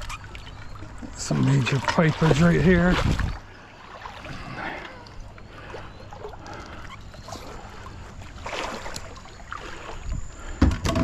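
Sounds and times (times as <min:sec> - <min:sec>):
water splashing around kayak: 0:00.0 - 0:11.0.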